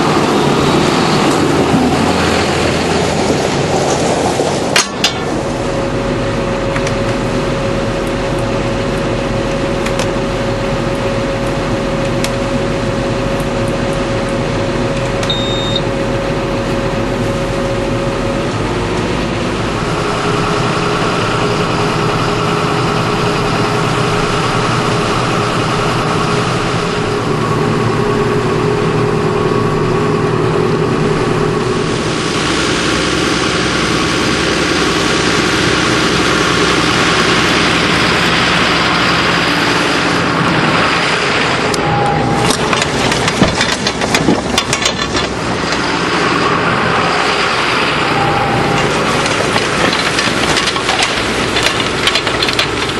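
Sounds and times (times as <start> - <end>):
rush of noise: 0.0 - 13.4, 16.0 - 52.9
tractor diesel engine running: 0.0 - 52.9.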